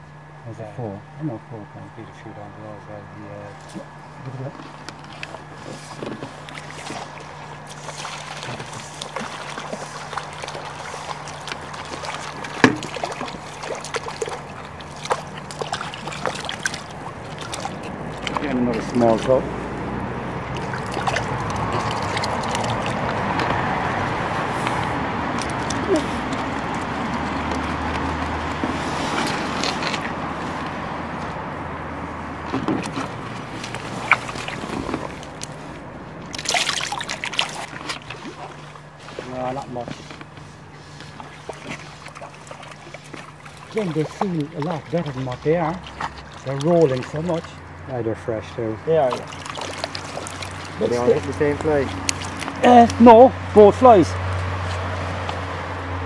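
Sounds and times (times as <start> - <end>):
steady low hum: 0.0 - 56.0
water sloshing and splashing: 3.5 - 56.0.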